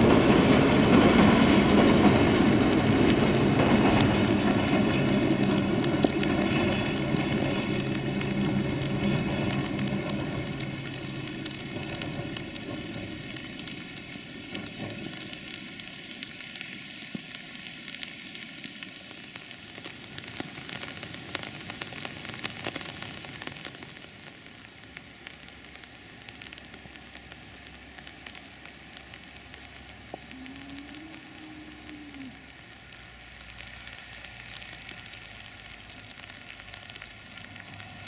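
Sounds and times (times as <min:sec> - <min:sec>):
faint steady train hum: 0:00.0 - 0:38.0
passing train rumble: 0:00.0 - 0:38.0
rain pattering: 0:00.0 - 0:38.0.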